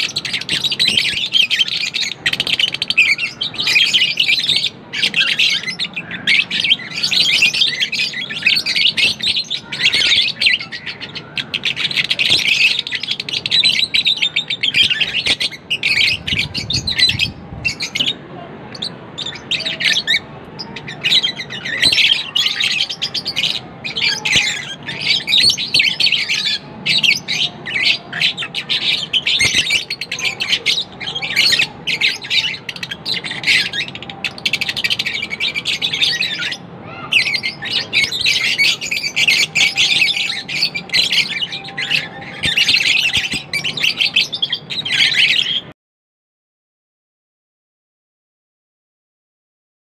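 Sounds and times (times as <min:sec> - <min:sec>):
lovebirds chirping: 0:00.0 - 0:45.7.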